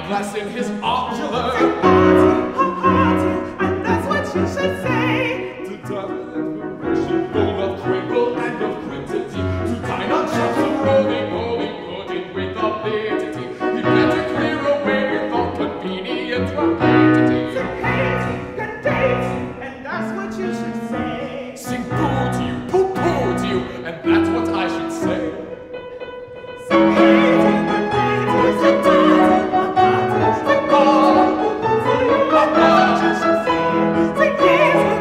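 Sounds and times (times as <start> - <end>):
classical singing voices: 0.0 - 35.0.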